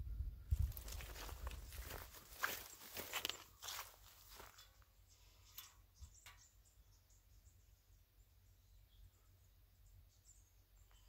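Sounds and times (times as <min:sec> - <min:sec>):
faint bird chirps: 0:01.0 - 0:11.0.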